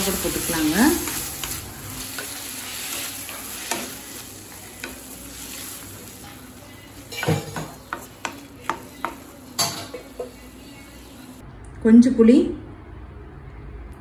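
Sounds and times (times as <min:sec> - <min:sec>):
vegetables sizzling in oil: 0:00.0 - 0:11.4.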